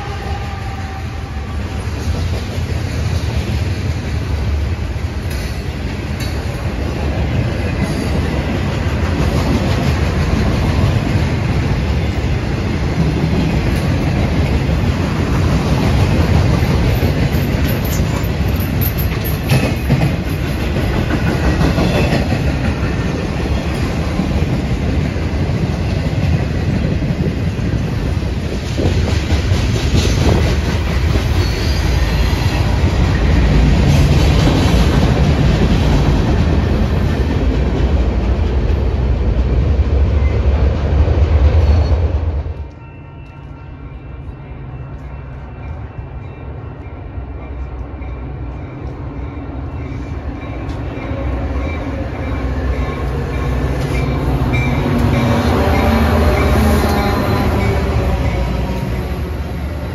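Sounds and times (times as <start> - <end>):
train wheels rumbling on rails: 0.0 - 59.9
clickety-clack over rail joints: 1.7 - 43.6, 44.8 - 59.9.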